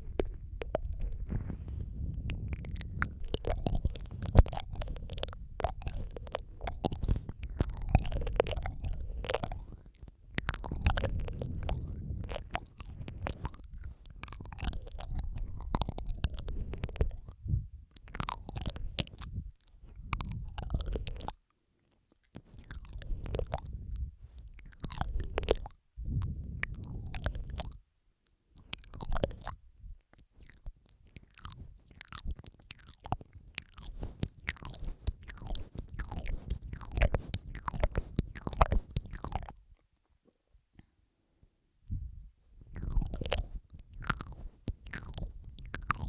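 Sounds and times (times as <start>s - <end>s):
wet mouth clicks and smacks: 0.0s - 39.8s, 42.6s - 46.0s.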